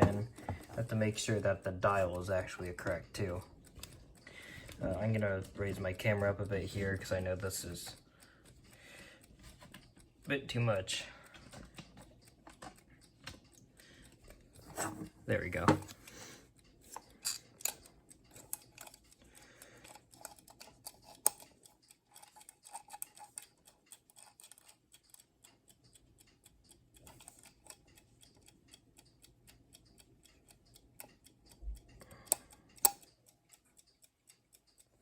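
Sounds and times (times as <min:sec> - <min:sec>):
alarm clock ticking: 0:00.0 - 0:35.0
clock being handled clicks: 0:00.0 - 0:35.0.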